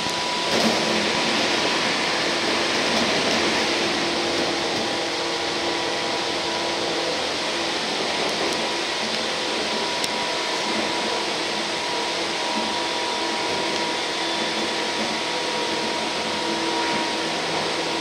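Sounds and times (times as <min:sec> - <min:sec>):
steady train whine: 0:00.0 - 0:18.0
train wheels rumbling: 0:00.0 - 0:18.0.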